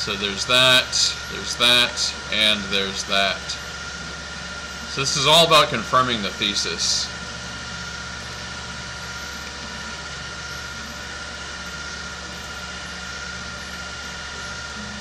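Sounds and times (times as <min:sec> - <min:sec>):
background hum and hiss: 0:00.0 - 0:15.0
faint high whine: 0:00.0 - 0:15.0.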